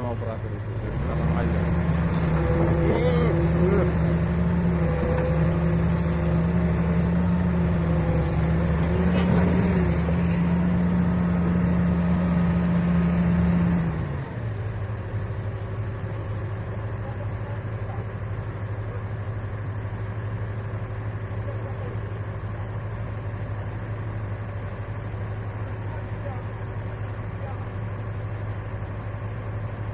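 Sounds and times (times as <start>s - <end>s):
heavy diesel engine running: 0.0s - 29.9s.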